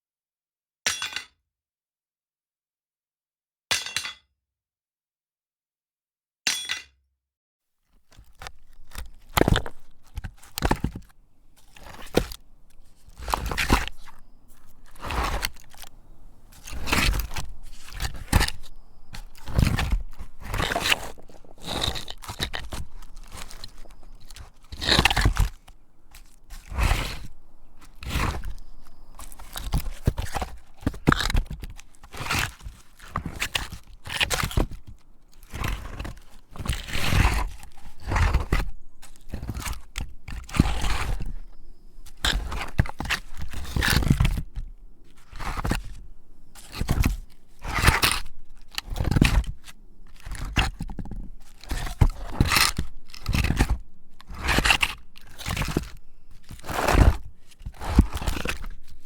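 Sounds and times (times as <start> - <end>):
crunching scraping strokes: 8.0 - 59.0.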